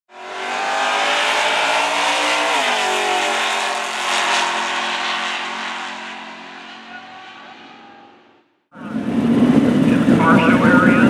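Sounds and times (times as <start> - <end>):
race car engine at high revs: 0.1 - 11.0.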